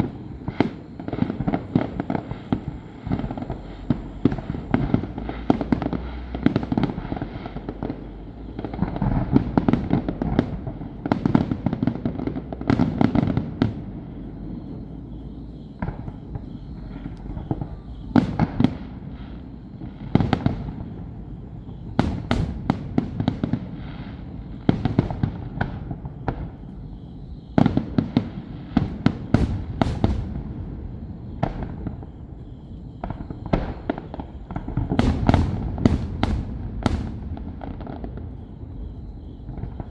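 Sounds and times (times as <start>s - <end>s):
continuous low rumble: 0.0s - 39.9s
fireworks bursting with sharp bangs: 0.0s - 39.9s.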